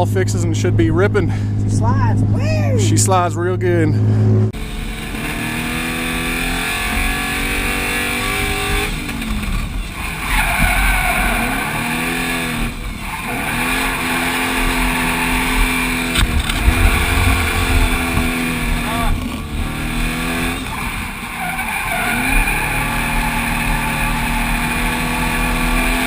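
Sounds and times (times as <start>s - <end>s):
truck engine revving: 0.0s - 26.0s
tires squealing: 5.1s - 26.0s.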